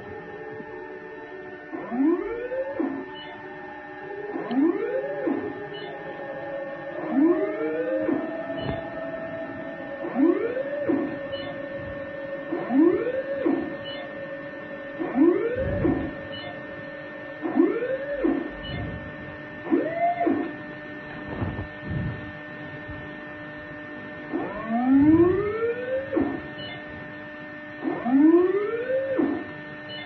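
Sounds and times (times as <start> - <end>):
rising electronic whine: 0.0 - 28.6
steady electronic hum: 0.0 - 30.0.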